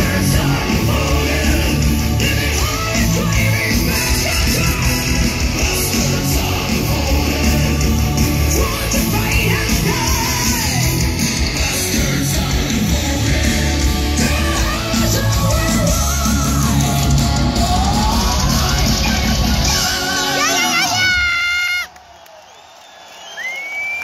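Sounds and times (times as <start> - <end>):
person singing: 0.0 - 21.0
heavy metal band playing live: 0.0 - 21.7.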